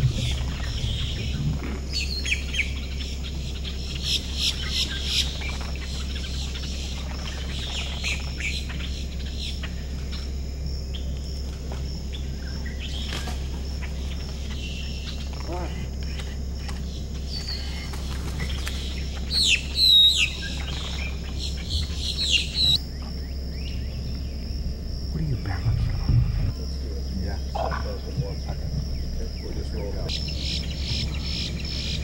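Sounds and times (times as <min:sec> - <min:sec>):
birds chirping and calling: 0:00.0 - 0:32.0
steady low hum: 0:00.0 - 0:32.0.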